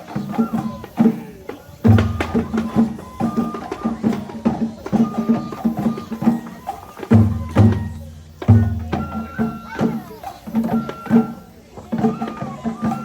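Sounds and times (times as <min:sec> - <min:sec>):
big drum heavy strokes: 0:00.0 - 0:13.0
small drum rhythmic strokes: 0:00.0 - 0:13.0.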